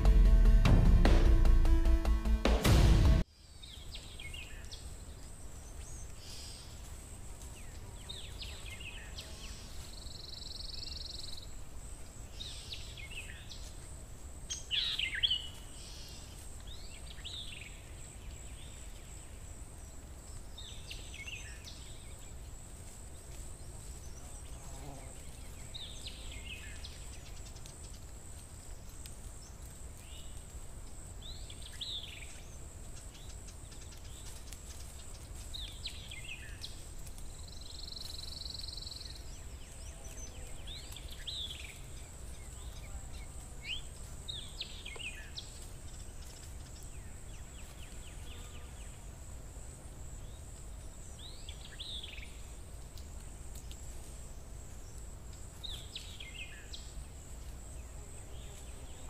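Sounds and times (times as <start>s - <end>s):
small birds chirping: 3.3s - 49.2s, 50.1s - 59.0s.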